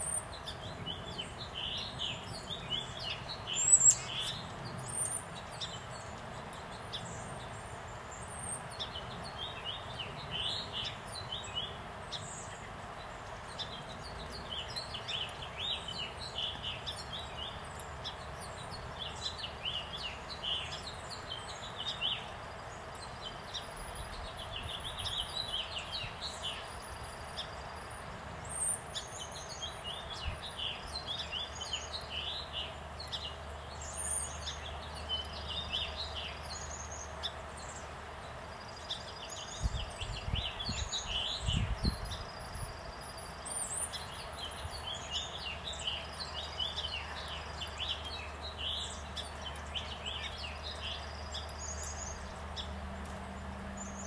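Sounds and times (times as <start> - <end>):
faint outdoor background noise: 0.0 - 54.0
small birds chirping: 0.0 - 54.0.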